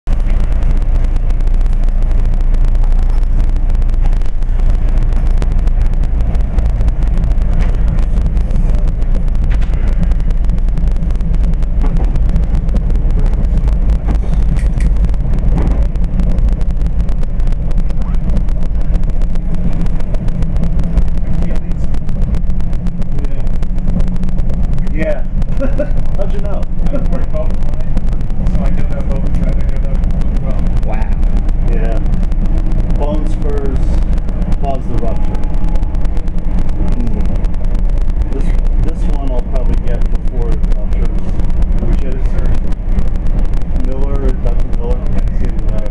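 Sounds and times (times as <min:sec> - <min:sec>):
train wheels rumbling on rail: 0:00.1 - 0:45.9.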